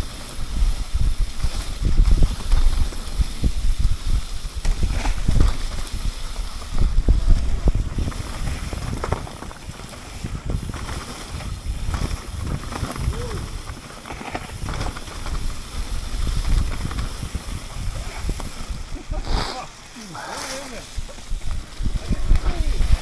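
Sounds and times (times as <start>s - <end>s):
bike knocks and rattles: 0.0s - 18.8s
bike rumbling on trail: 0.0s - 23.0s.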